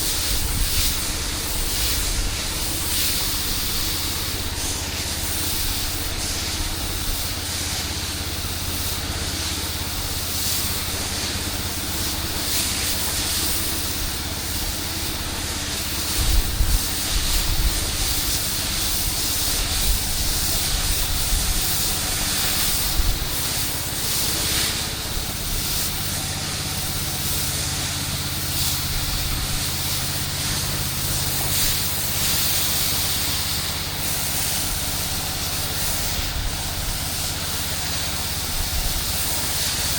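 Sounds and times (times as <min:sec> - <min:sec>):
engine running: 0:00.0 - 0:39.9
water spray hissing: 0:00.0 - 0:39.9.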